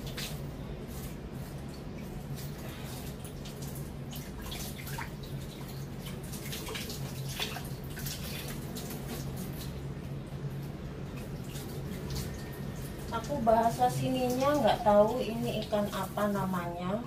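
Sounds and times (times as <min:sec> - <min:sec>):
water splashes and drips: 0:00.0 - 0:16.8
steady low hum: 0:00.0 - 0:17.0.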